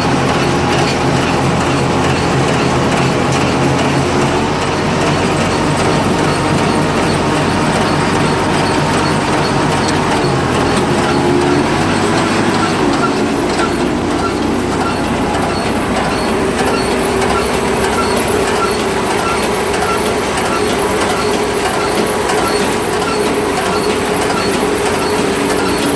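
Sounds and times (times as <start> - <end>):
baler mechanical drone: 0.0 - 25.9.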